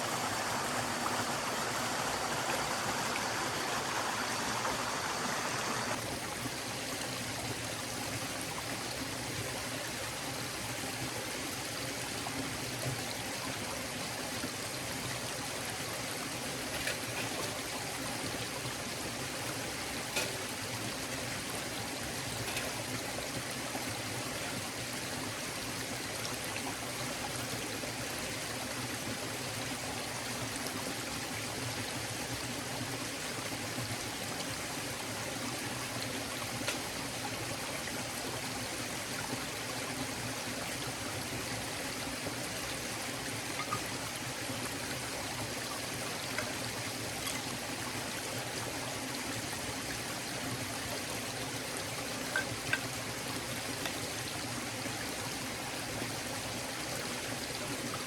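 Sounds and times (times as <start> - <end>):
stream water trickling over stones: 0.0 - 58.0.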